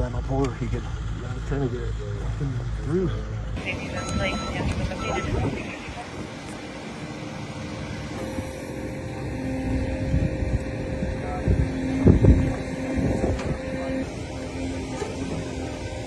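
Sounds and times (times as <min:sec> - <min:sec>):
construction machine engine rumbling: 0:00.0 - 0:16.0.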